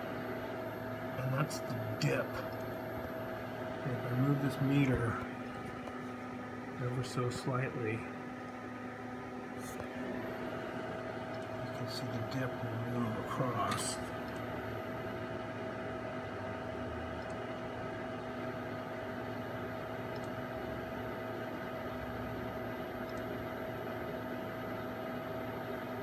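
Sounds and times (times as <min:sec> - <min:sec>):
test instruments humming and hissing: 0:00.0 - 0:26.0.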